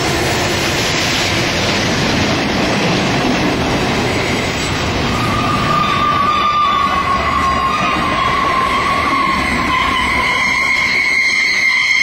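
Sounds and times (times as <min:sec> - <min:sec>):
freight train wagons rolling past: 0:00.0 - 0:12.0
steel wheels rattling on rails: 0:00.0 - 0:12.0.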